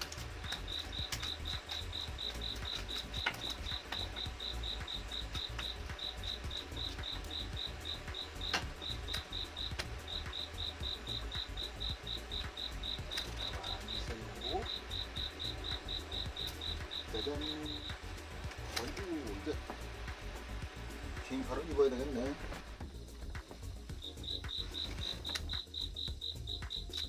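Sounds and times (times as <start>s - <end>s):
low steady rumble: 0.0s - 26.7s
cricket chirping: 0.0s - 27.0s.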